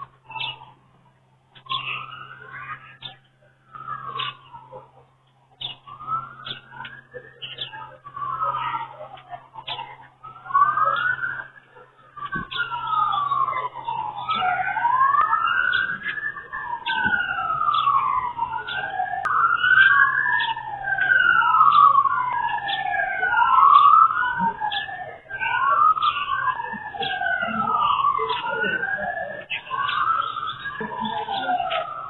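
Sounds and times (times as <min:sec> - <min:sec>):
emergency sirens wailing: 0:00.0 - 0:32.0.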